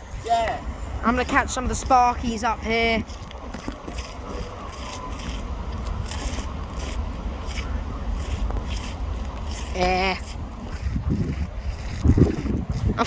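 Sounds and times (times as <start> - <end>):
electric train rumbling past: 0.0 - 11.7
wheels scraping on rails: 0.0 - 13.0.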